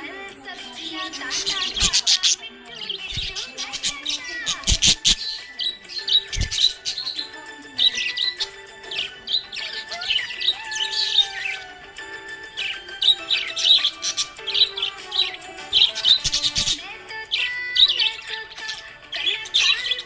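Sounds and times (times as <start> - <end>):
background music with held tones: 0.0 - 20.0
budgerigars chirping and warbling: 0.0 - 20.0.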